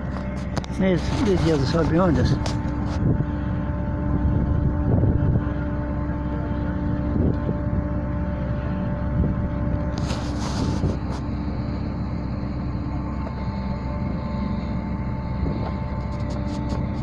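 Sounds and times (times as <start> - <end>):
constant machinery hum: 0.0 - 17.0
ferry engine low rumble: 0.0 - 17.0.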